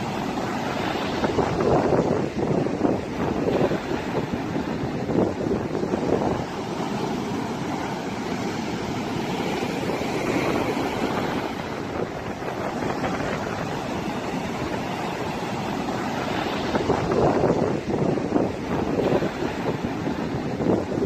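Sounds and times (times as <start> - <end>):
surf waves breaking on beach: 0.0 - 21.0
wind buffeting microphone: 0.0 - 21.0.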